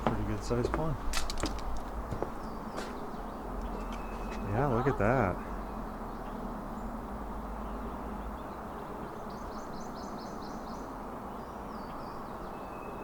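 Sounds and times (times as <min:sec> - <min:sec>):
low rushing background: 0:00.0 - 0:13.0
small bird singing: 0:02.3 - 0:13.0.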